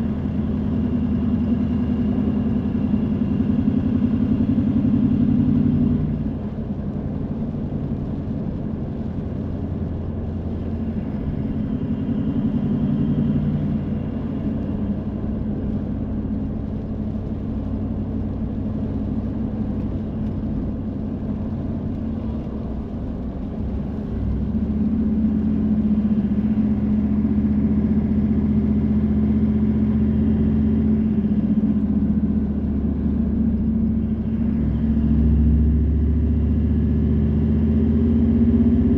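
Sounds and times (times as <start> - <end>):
car engine hum: 0.0 - 38.9
road noise: 0.0 - 38.9.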